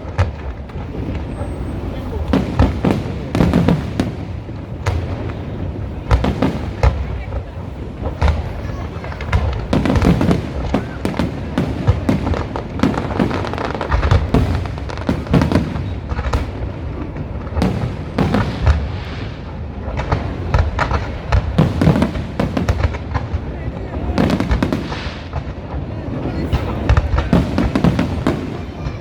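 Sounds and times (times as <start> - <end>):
deep fireworks booms: 0.0 - 29.0
fireworks bangs and crackles: 0.0 - 29.0.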